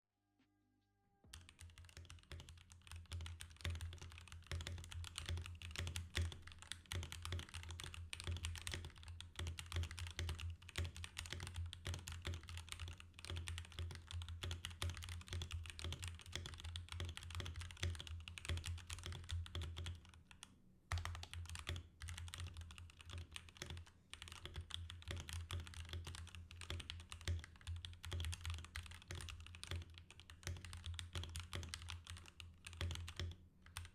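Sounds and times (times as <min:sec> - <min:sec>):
mechanical keyboard typing: 0:01.3 - 0:33.9.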